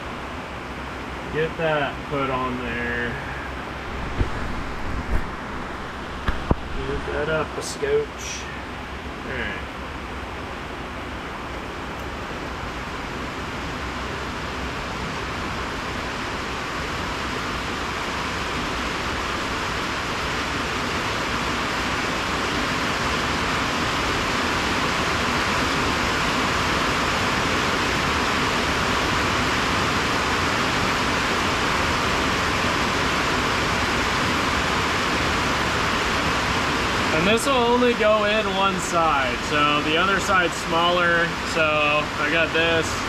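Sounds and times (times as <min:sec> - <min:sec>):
heavy rain on a metal roof: 0:03.2 - 0:07.2, 0:08.6 - 0:43.0.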